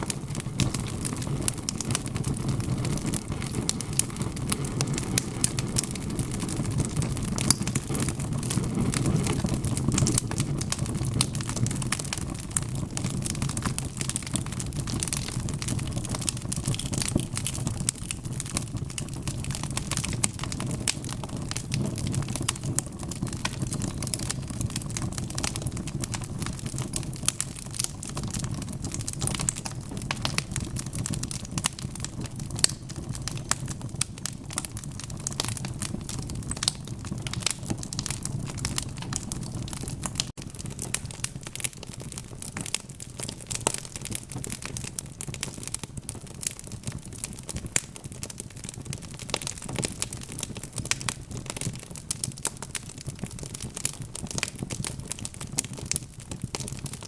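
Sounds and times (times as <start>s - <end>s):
burning logs crackling and popping: 0.0s - 57.0s
low rumble of flames: 0.0s - 57.0s.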